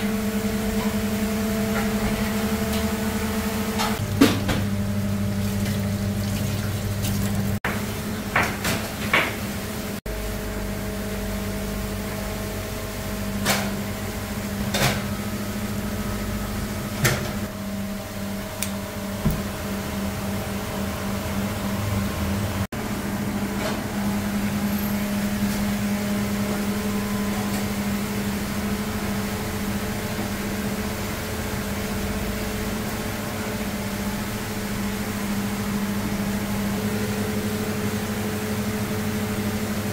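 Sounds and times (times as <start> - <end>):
machinery humming: 0.0 - 13.3, 13.9 - 39.9.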